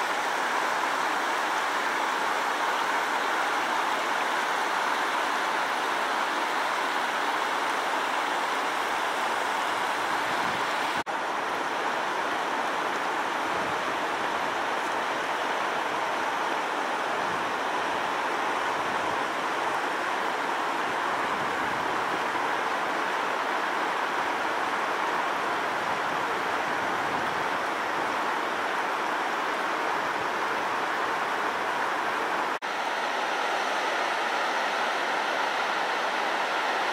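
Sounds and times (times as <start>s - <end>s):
river rushing over rapids: 0.0s - 36.9s.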